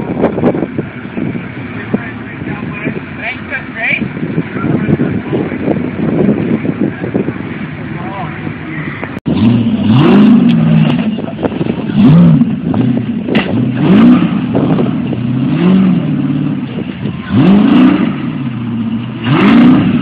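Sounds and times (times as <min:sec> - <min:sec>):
buggy engine revving: 0:00.0 - 0:20.0.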